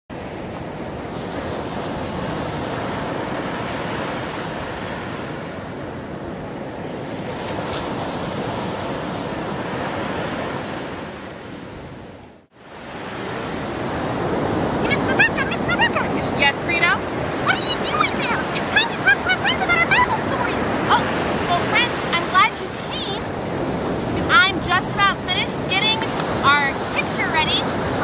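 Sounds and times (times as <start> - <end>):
ocean surf breaking: 0.1 - 28.0.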